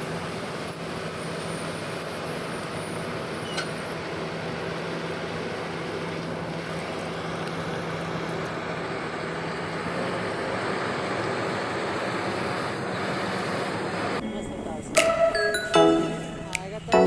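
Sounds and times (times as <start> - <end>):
low engine hum: 0.0 - 15.0
heavy road vehicle engines: 0.0 - 17.0.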